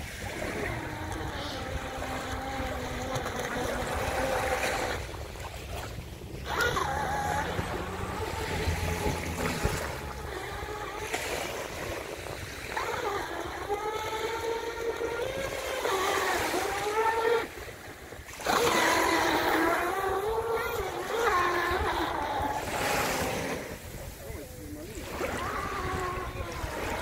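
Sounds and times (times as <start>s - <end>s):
electric motor whine: 0.0s - 5.2s, 6.0s - 24.6s
lapping waves: 0.0s - 27.0s
wind: 0.0s - 27.0s.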